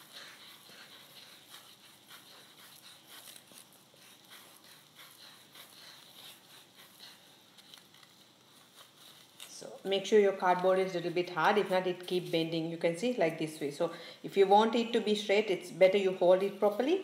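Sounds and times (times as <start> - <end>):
yarn rustling on cardboard: 0.0 - 13.9, 15.9 - 17.0
faint hiss: 0.0 - 17.0.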